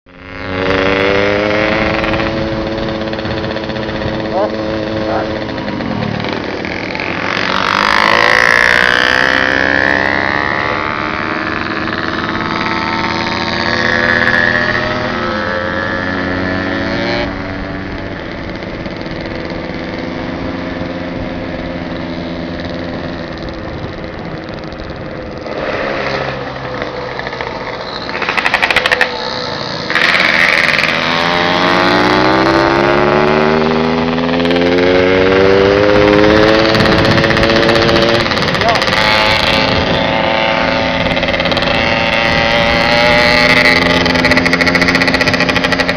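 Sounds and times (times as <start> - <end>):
motorcycle engine accelerating: 0.1 - 45.9
wind and road rushing: 0.1 - 45.9.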